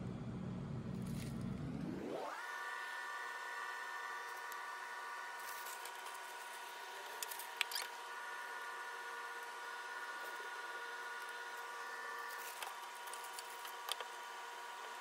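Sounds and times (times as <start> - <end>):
high-pitched machine whine: 0.0 - 15.0.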